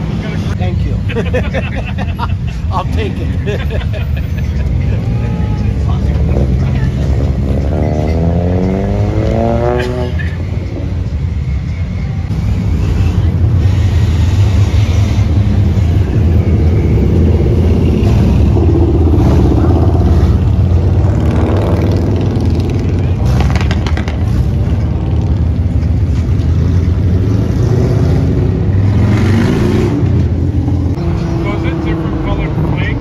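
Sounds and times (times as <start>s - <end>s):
car engine revving: 4.9s - 11.3s, 12.3s - 33.0s.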